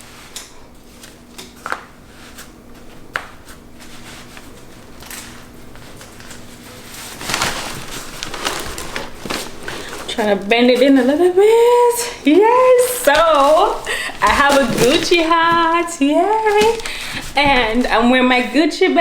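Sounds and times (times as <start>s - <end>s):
cap brim rustling: 0.8s - 18.8s.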